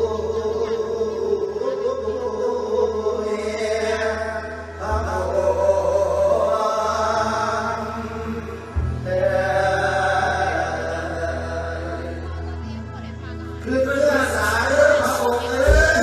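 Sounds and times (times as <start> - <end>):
sustained musical accompaniment: 0.0 - 16.0.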